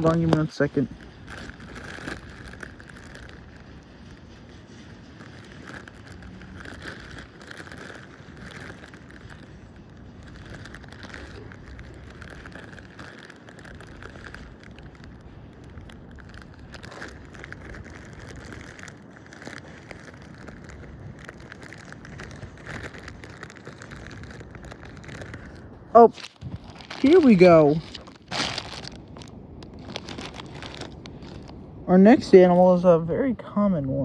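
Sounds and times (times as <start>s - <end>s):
dry leaves rustling and crackling: 0.0s - 31.6s
wind rumble on microphone: 0.0s - 34.0s.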